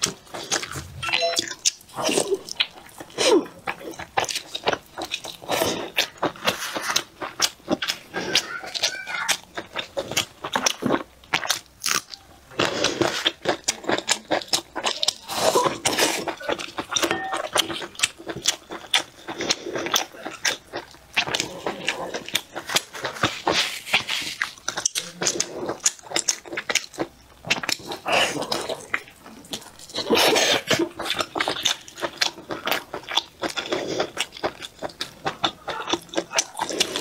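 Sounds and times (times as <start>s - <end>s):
woman chewing meat: 0.0s - 37.0s.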